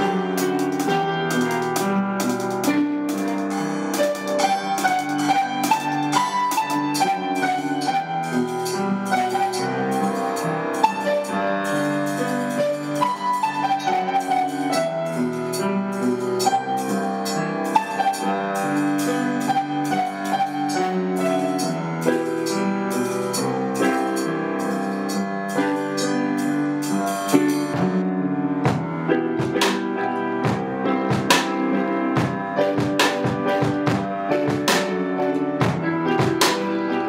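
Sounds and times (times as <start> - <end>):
drum kit beat: 0.0 - 37.0
piano: 0.0 - 37.0.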